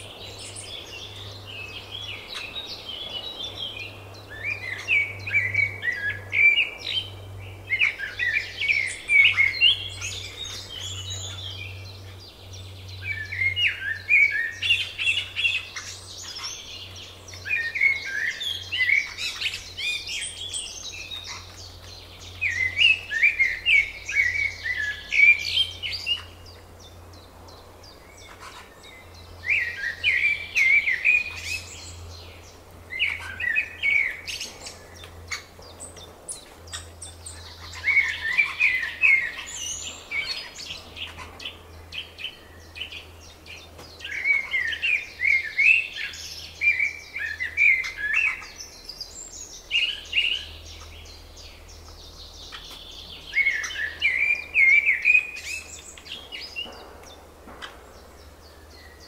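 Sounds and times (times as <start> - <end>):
songbird chattering song: 0.0 - 59.0.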